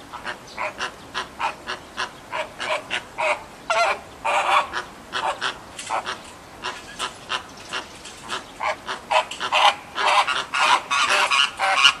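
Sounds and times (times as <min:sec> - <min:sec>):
flamingos calling: 0:00.1 - 0:12.0.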